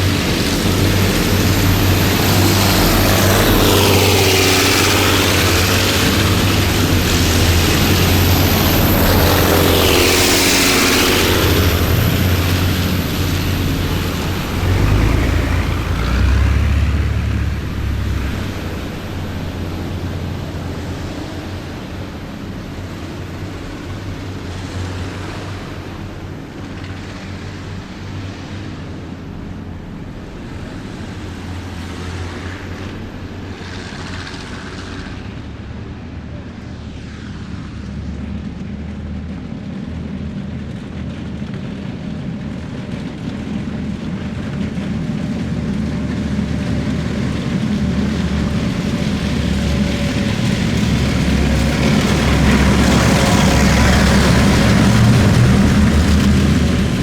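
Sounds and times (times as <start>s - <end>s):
heavy vehicle engines rumbling: 0.0s - 57.0s.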